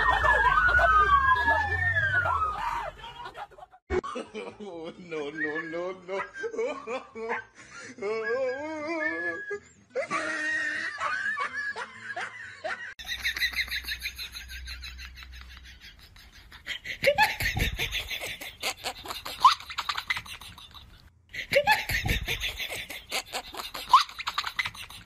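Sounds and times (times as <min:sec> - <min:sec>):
people laughing hard: 0:00.0 - 0:05.4, 0:06.1 - 0:08.1, 0:10.0 - 0:25.0.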